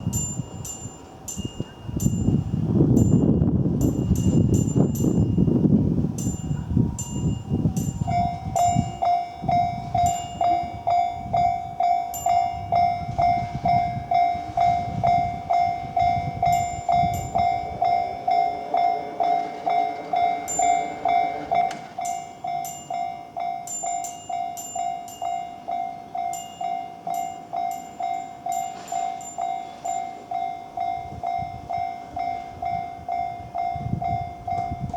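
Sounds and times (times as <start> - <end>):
level crossing warning bell: 0.0 - 34.9
train rumble: 0.0 - 34.9.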